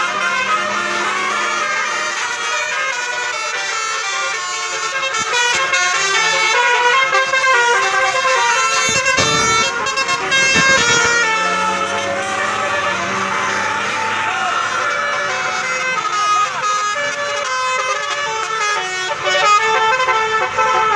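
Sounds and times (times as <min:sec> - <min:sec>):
multi-tone bus horn tune: 0:00.0 - 0:20.9.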